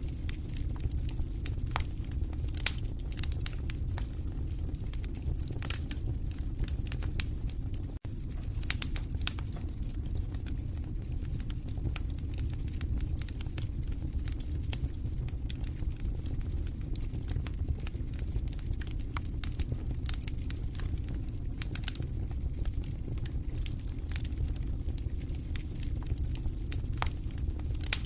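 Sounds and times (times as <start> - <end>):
fire crackling and popping: 0.0 - 28.0
low rush of flame: 0.0 - 28.0.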